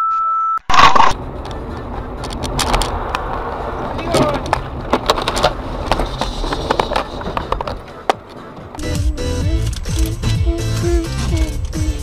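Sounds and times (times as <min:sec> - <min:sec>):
car engine rumble: 0:00.7 - 0:12.0.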